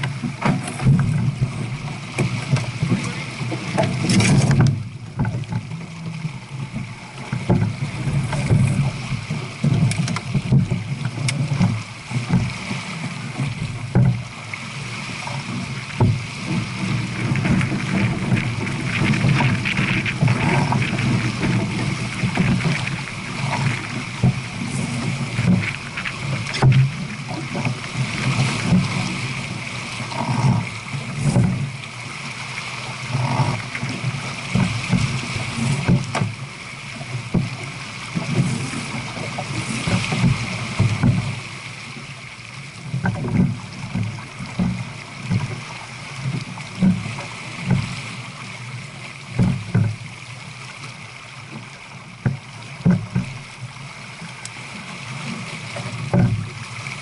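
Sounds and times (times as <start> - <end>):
water rushing past a boat hull: 0.0 - 57.0.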